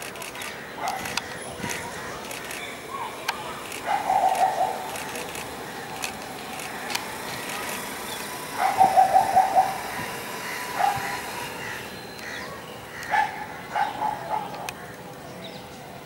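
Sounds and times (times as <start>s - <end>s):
animal calls: 0.3s - 14.9s.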